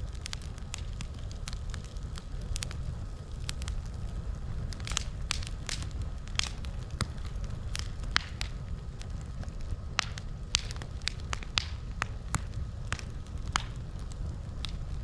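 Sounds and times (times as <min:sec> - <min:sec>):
campfire crackling: 0:00.0 - 0:15.0
low steady rumble: 0:00.0 - 0:15.0.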